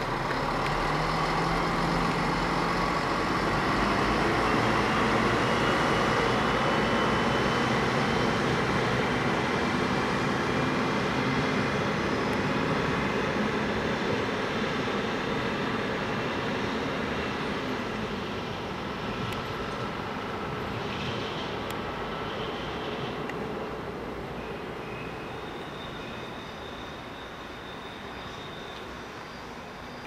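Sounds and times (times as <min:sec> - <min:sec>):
diesel railcar engines running: 0:00.0 - 0:30.0.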